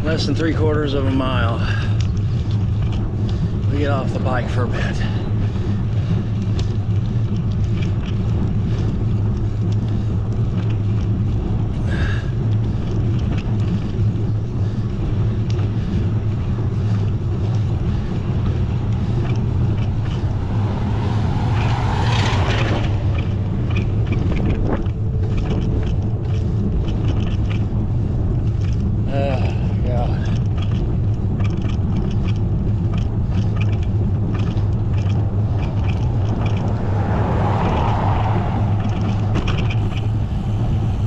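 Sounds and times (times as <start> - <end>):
road noise: 0.0 - 41.0
wind noise on microphone: 0.0 - 41.0.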